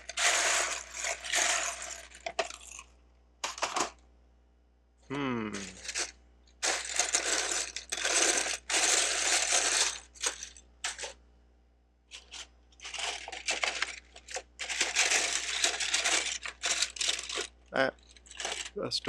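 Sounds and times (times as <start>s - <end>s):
plastic bricks clattering: 0.0s - 4.0s, 5.6s - 11.2s, 12.1s - 18.8s.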